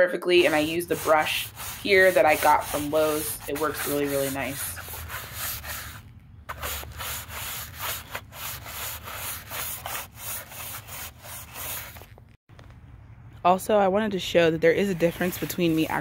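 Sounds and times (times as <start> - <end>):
scrub brush scrubbing bamboo fence: 0.2 - 12.0, 14.8 - 16.0.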